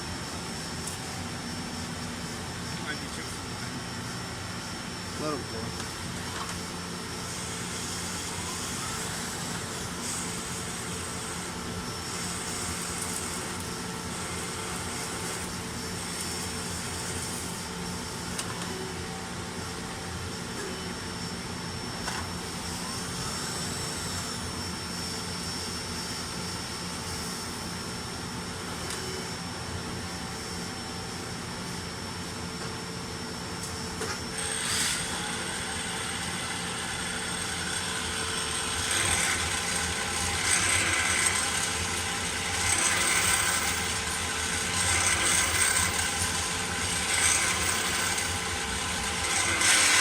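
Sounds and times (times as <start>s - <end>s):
machine hum with whining tones: 0.0s - 50.0s.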